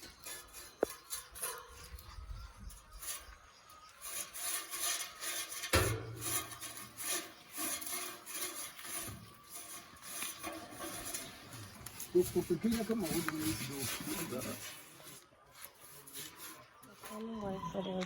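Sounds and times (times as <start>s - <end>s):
rasping scraping strokes: 0.0s - 17.4s.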